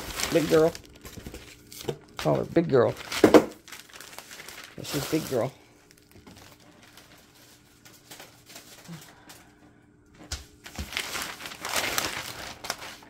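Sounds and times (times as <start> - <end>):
paper crinkling: 0.0 - 9.3, 10.2 - 13.0.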